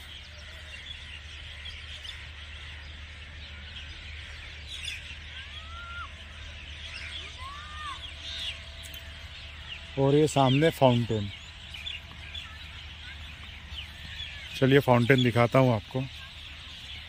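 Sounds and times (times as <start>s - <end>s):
bird call: 0.0s - 17.0s
birds chirping: 0.0s - 17.0s
low steady hum: 0.0s - 17.0s.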